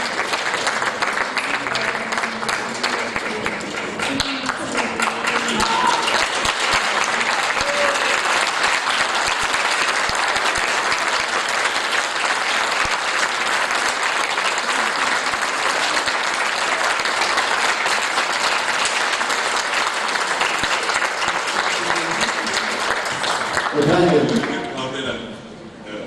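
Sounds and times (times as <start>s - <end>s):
audience applause: 0.0s - 24.8s.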